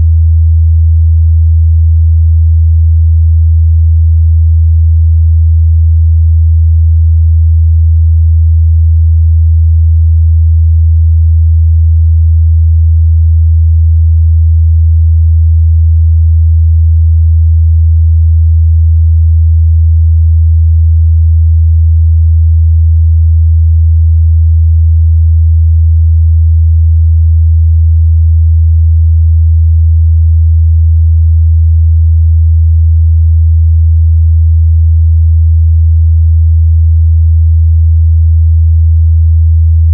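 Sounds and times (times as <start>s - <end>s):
low sine-wave test tone: 0.0s - 39.9s.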